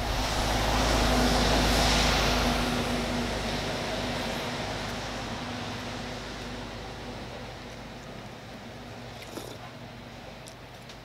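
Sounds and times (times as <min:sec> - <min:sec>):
tyres hissing on wet road: 0:00.0 - 0:09.6
bus engine rumbling: 0:00.0 - 0:10.7.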